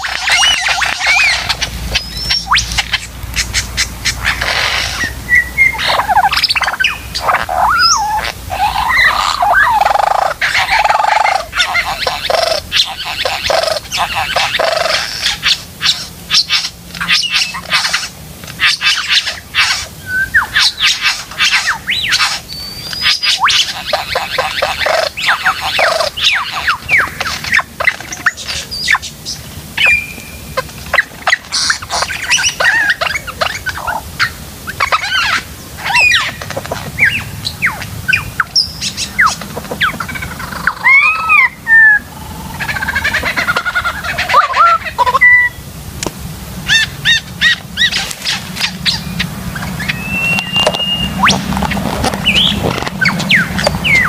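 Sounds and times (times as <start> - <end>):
lyrebird singing: 0.0 - 45.6, 46.6 - 54.0.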